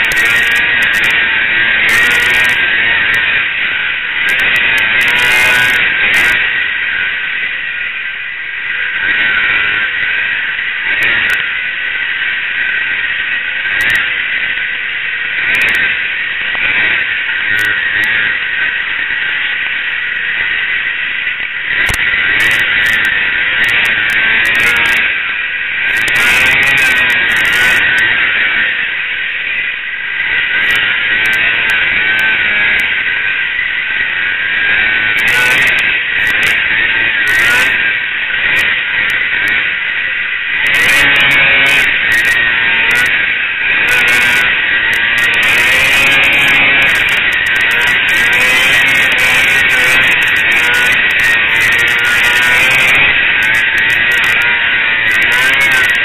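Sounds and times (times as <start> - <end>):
heavy rush of noise: 0.0 - 56.0
snowmobile engine: 0.0 - 56.0.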